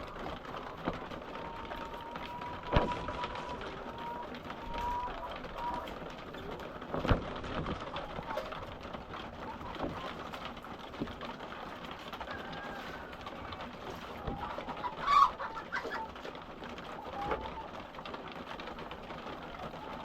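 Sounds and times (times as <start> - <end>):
hens clucking: 0.0 - 20.0.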